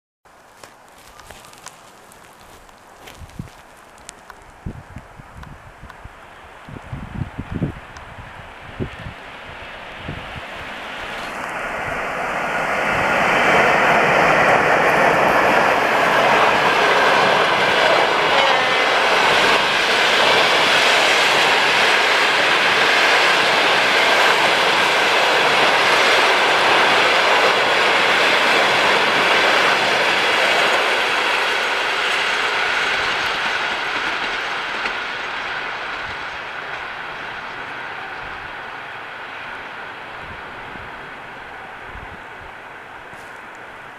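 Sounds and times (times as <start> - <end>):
passenger train passing: 0.6 - 43.9.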